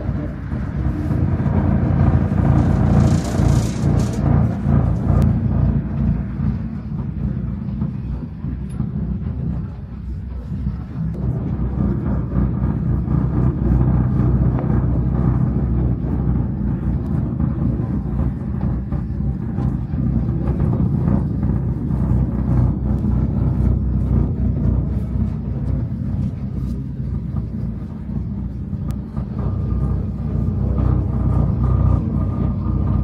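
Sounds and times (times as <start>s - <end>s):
cable car low rumble: 0.0s - 33.0s.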